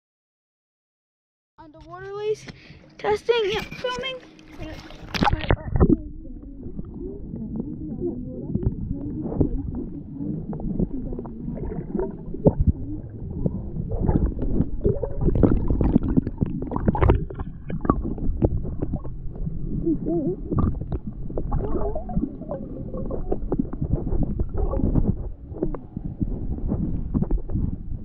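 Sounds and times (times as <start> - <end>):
underwater rumbling and gurgling: 4.3 - 28.0.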